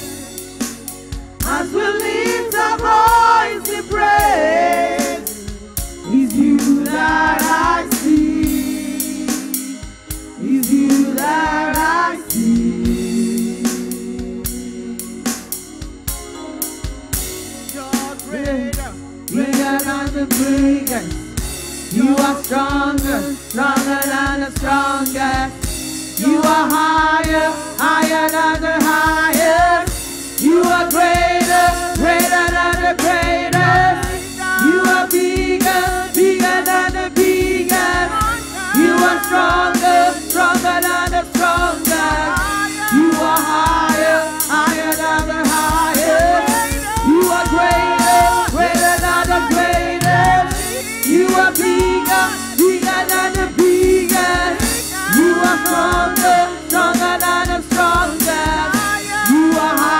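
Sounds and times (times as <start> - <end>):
women singing gospel: 0.0 - 0.2, 1.4 - 15.6, 19.3 - 59.9
instrumental backing: 0.0 - 59.9
steady drum beat: 0.0 - 59.9.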